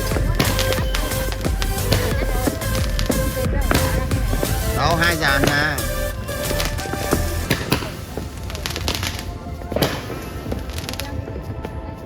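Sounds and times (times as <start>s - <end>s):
background music: 0.0s - 12.0s
fireworks bangs and crackles: 0.0s - 12.0s.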